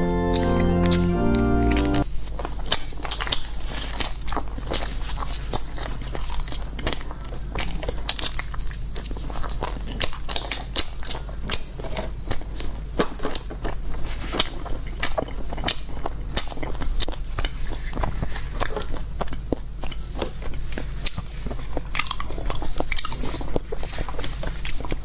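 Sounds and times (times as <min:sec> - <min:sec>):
crunchy bites and chewing: 0:00.1 - 0:25.0.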